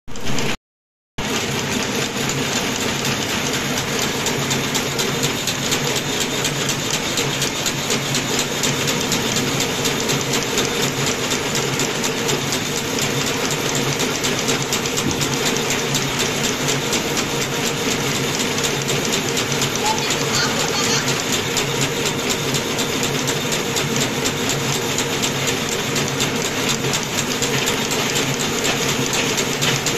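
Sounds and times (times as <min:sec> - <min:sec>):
machine mechanical clatter: 0:00.1 - 0:00.6, 0:01.2 - 0:29.9.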